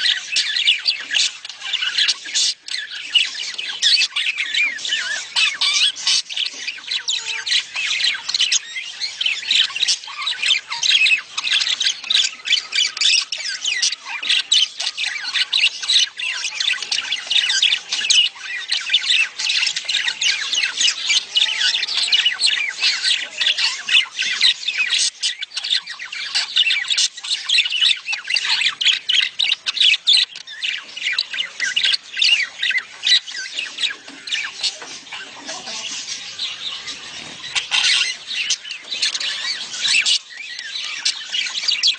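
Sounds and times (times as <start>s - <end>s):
budgerigars chattering and squawking: 0.0s - 41.9s.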